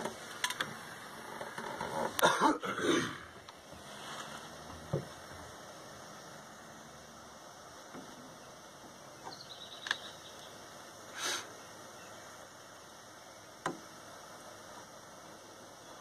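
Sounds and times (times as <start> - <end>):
gas torch hissing: 0.0 - 16.0
rustle: 0.0 - 16.0.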